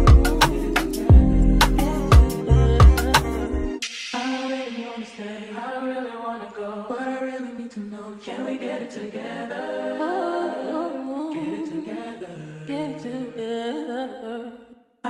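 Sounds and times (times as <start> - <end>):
song with singing voice: 0.0 - 14.8.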